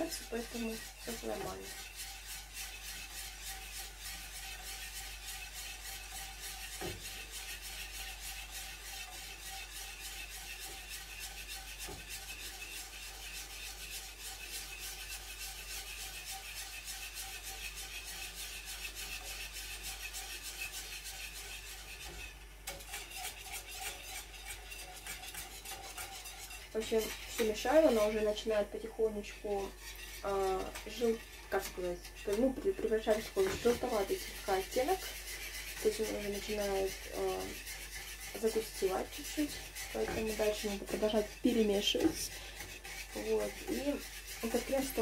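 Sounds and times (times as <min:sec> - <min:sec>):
spatula scraping a saucepan: 0:00.0 - 0:45.0.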